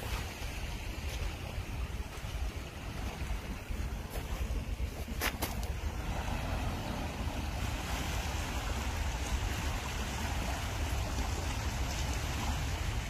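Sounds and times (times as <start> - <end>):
waves lapping over rocks: 0.0 - 13.0
wind buffeting microphone: 0.0 - 13.0.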